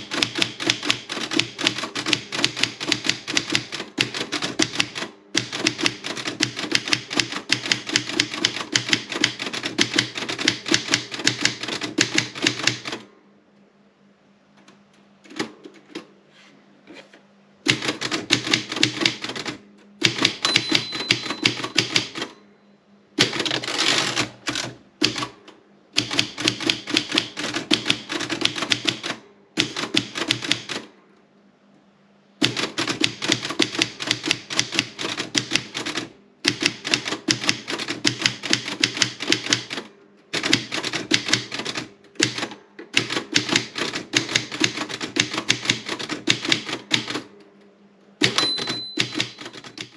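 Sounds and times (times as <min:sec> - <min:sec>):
typewriter keystrokes: 0:00.0 - 0:13.1, 0:15.3 - 0:16.1, 0:17.7 - 0:22.4, 0:23.2 - 0:25.4, 0:26.0 - 0:30.9, 0:32.4 - 0:47.3, 0:48.2 - 0:49.9.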